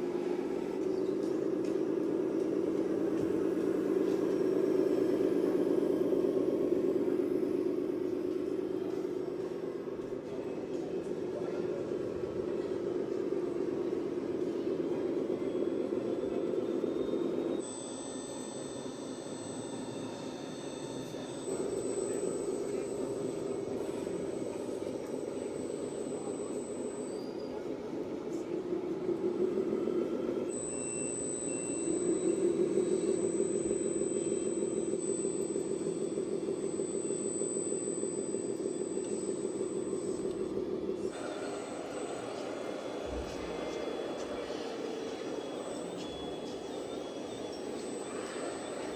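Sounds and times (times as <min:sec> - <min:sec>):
electric drive whine: 0:00.0 - 0:48.9
simulated engine sound: 0:00.0 - 0:48.9.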